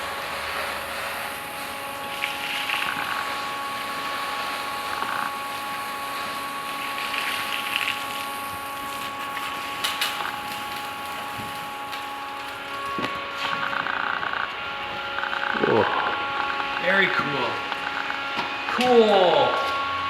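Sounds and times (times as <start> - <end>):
bandsaw cutting wood: 0.0 - 20.0.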